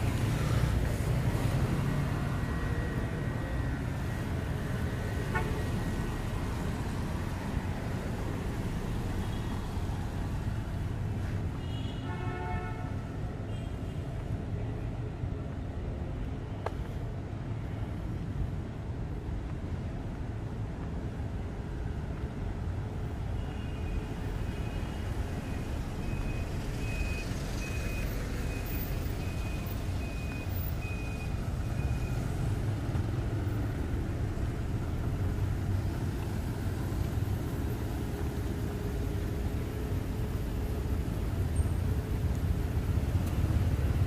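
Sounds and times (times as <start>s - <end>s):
street traffic rumble: 0.0s - 44.0s.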